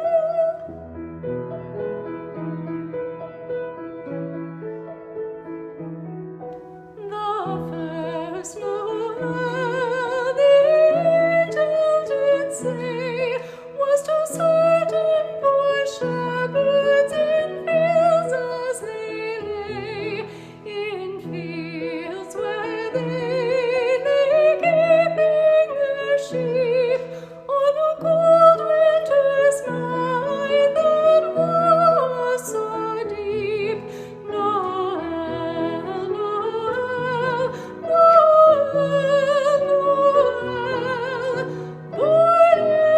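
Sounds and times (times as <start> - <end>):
soprano voice singing: 0.0 - 1.0, 6.8 - 42.9
piano accompaniment: 0.0 - 42.9.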